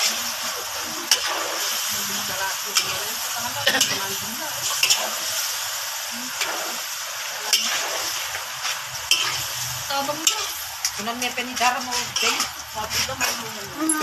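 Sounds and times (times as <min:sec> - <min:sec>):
metal spatula scraping a pan: 0:00.0 - 0:05.3, 0:07.4 - 0:14.0
meat sizzling in a wok: 0:00.0 - 0:14.0.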